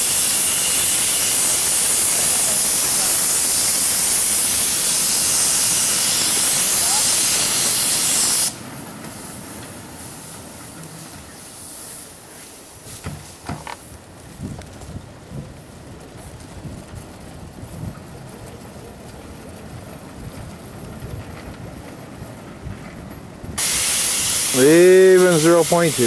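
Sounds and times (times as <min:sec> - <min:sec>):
steam locomotive hissing: 0:00.0 - 0:26.0.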